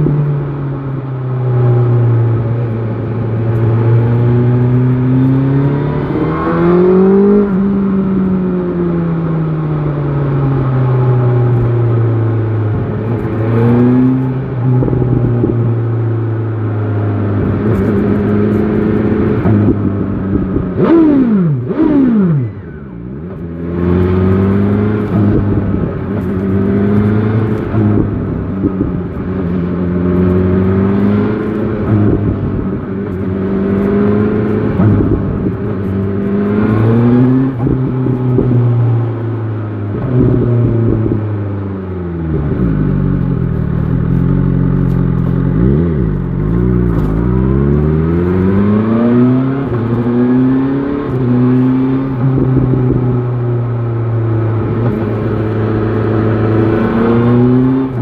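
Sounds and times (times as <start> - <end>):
motorcycle engine revving: 1.2 - 9.2, 10.0 - 58.0.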